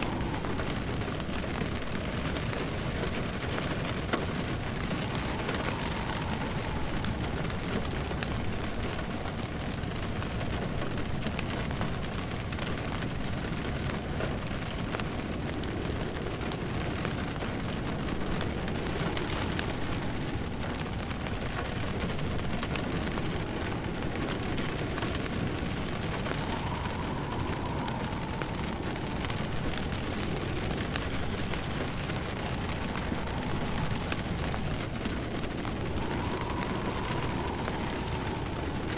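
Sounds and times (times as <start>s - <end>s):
log fire crackling: 0.0s - 38.9s
steady rain falling: 0.0s - 38.9s
wind whistling: 0.0s - 38.9s.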